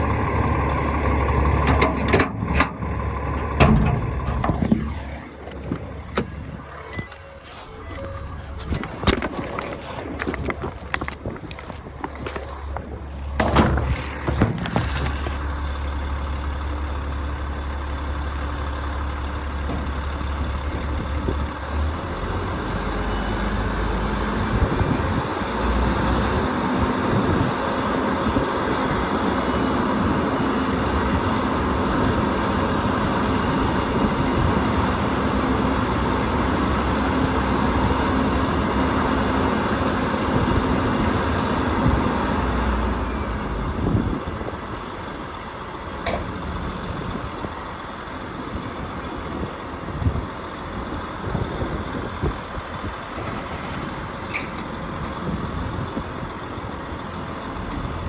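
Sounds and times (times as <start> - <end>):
heavy machinery humming: 0.0 - 58.0.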